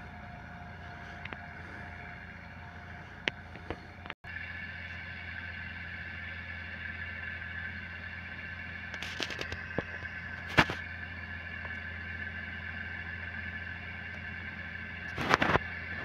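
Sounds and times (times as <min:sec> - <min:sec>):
tractor diesel engines running: 0:00.0 - 0:16.0.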